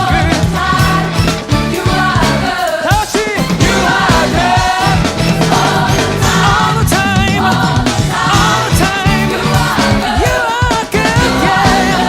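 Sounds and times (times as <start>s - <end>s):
band with drums: 0.0s - 12.0s
voices singing with vibrato: 0.0s - 12.0s.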